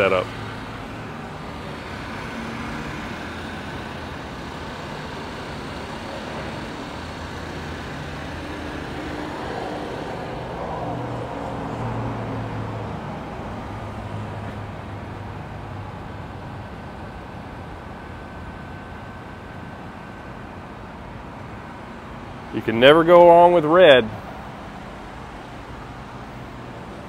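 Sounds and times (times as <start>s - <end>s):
low engine hum: 0.0s - 27.0s
outdoor noise: 0.0s - 27.0s.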